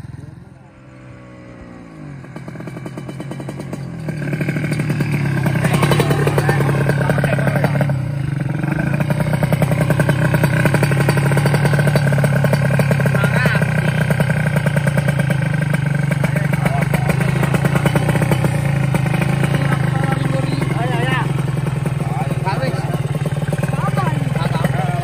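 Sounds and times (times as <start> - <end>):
faint motorcycle: 0.0 - 25.0
loud two-stroke motorcycle engine: 0.0 - 25.0.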